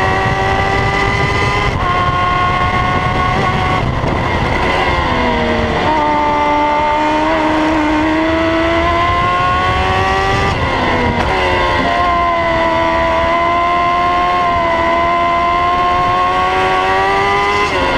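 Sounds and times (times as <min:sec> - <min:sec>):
racing car engine accelerating: 0:00.0 - 0:17.9.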